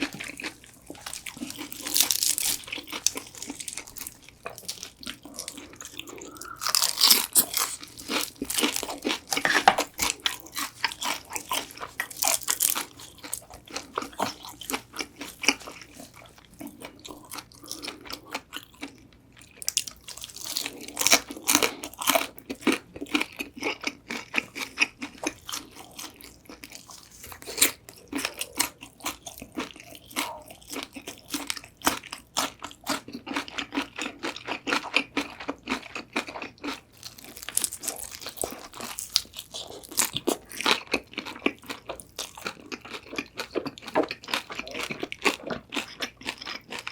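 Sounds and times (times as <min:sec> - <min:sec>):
crunching fried chicken: 0:00.0 - 0:46.9.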